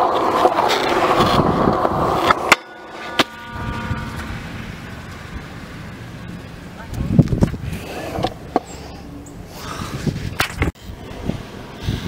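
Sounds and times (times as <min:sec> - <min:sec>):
longboard wheels rolling on concrete: 0:00.0 - 0:12.0.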